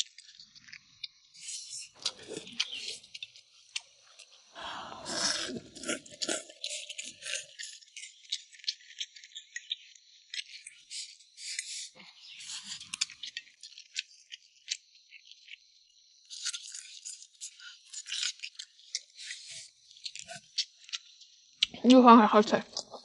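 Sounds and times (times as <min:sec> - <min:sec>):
crunchy chewing: 0:00.0 - 0:22.0, 0:22.6 - 0:23.0.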